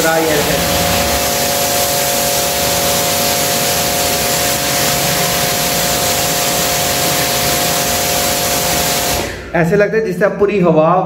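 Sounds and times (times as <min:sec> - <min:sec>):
water jet hissing on tiles: 0:00.0 - 0:09.5
pump motor whine: 0:00.0 - 0:09.6.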